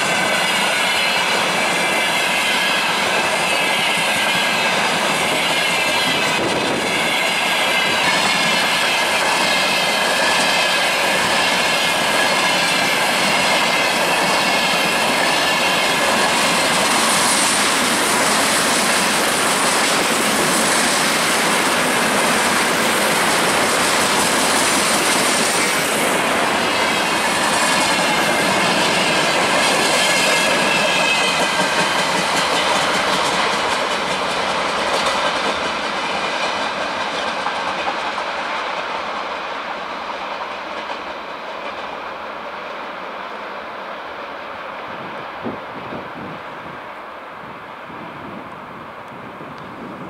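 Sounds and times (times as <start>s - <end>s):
freight train wheels clattering: 0.0s - 42.9s.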